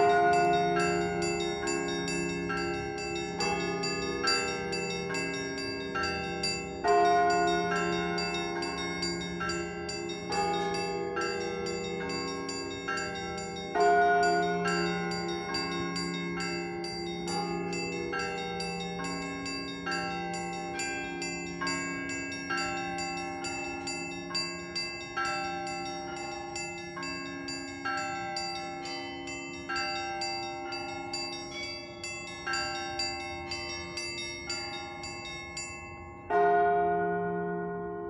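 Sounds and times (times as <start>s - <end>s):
bells ringing in a pattern: 0.0s - 38.0s.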